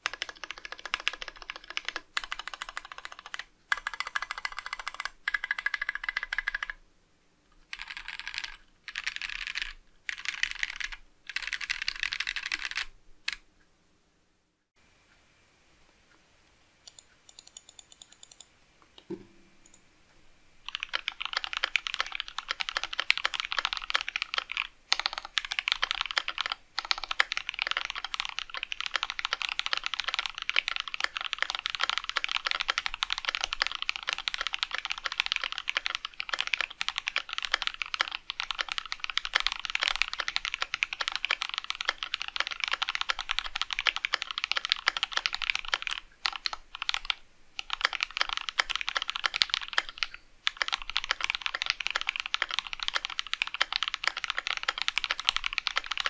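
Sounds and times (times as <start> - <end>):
mechanical keyboard typing: 0.0 - 6.8, 7.7 - 13.4, 16.8 - 18.5, 20.7 - 56.0.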